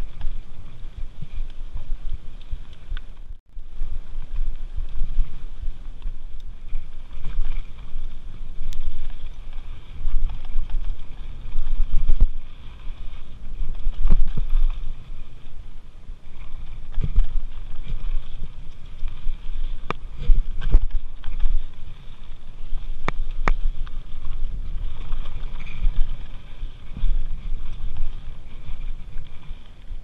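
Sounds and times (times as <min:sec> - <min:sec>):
bike clicks and rattles: 0:00.0 - 0:15.6, 0:16.2 - 0:30.0
bike rumbling over dirt: 0:00.0 - 0:30.0
wind buffeting microphone: 0:00.0 - 0:30.0.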